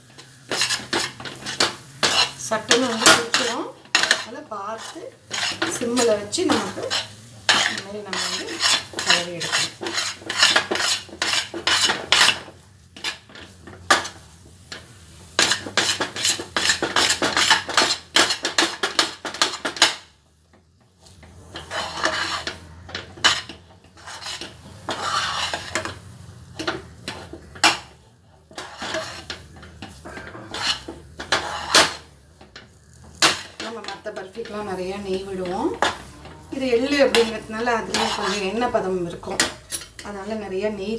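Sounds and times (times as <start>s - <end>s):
spoon scraping a steel pan: 0.1s - 20.0s, 21.0s - 40.8s.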